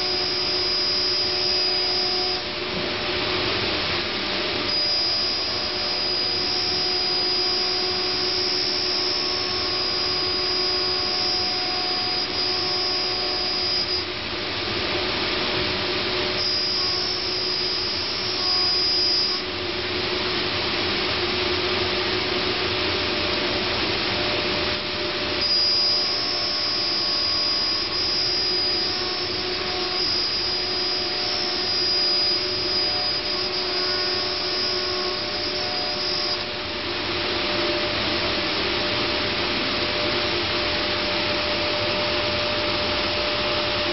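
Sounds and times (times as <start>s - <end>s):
router and dust collector rushing: 0.0s - 20.6s, 23.4s - 41.6s
high whine: 0.0s - 43.9s.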